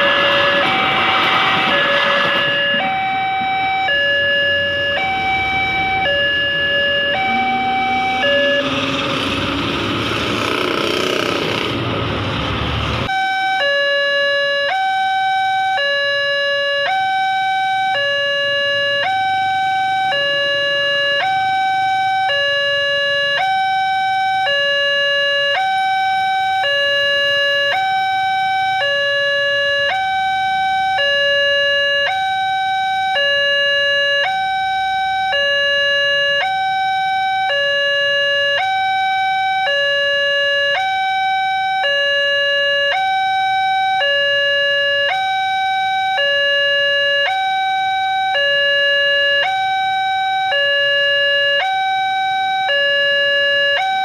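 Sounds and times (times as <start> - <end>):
level crossing two-tone alarm: 0.0 - 9.3, 13.1 - 54.0.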